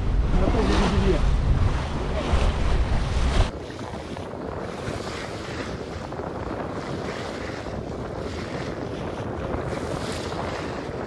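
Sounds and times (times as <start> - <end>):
hiss of wind and waves: 0.0 - 11.0
water rushing along hull: 0.0 - 11.0
wind buffeting microphone: 0.0 - 11.0.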